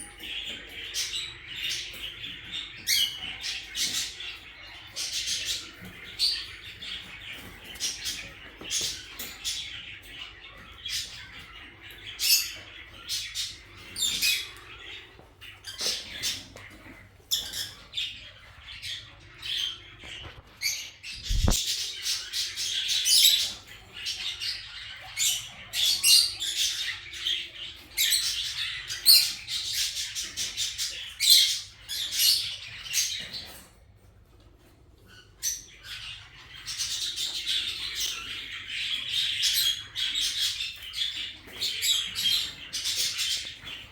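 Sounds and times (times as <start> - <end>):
parakeets chattering and squawking: 0.0 - 43.9.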